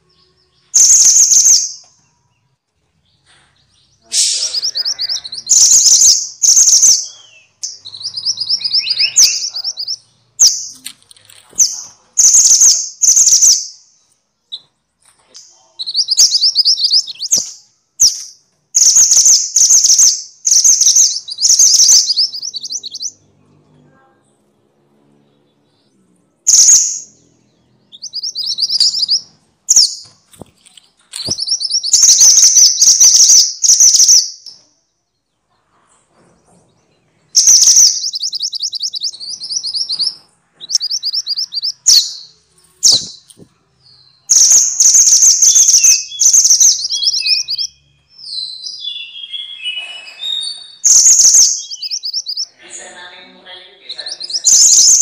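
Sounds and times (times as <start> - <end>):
bird trilling song: 0.0 - 23.9, 25.0 - 35.4, 36.9 - 52.6, 53.8 - 55.0.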